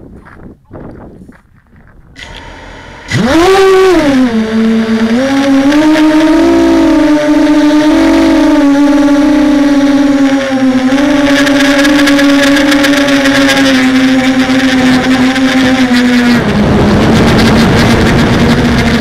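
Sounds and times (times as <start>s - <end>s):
drone motors whirring: 2.0s - 19.0s.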